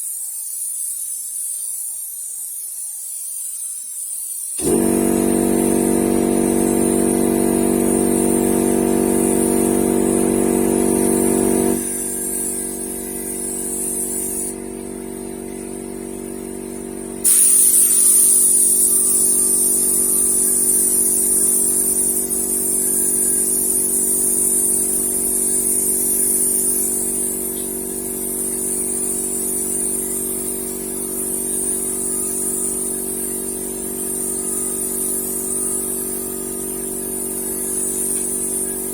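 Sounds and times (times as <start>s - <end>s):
paint spray gun hissing: 0.0s - 38.9s
air compressor motor humming: 4.6s - 38.9s.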